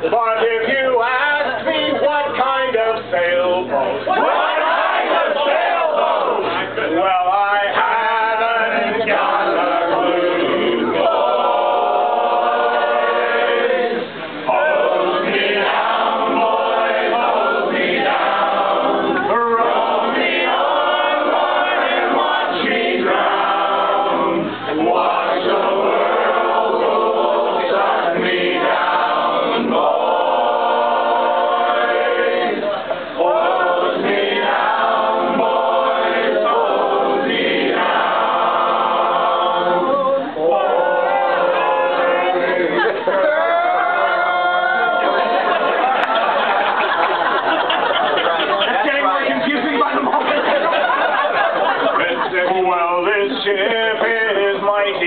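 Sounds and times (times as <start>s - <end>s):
voices singing a sea chantey: 0.0s - 55.0s.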